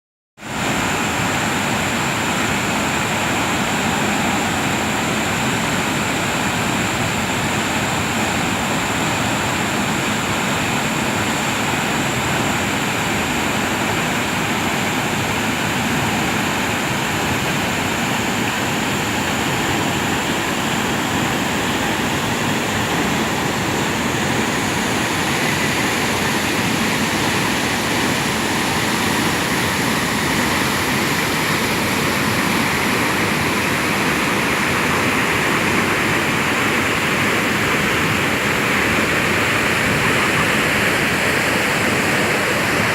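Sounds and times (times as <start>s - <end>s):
waterfall roaring: 0.4s - 42.9s.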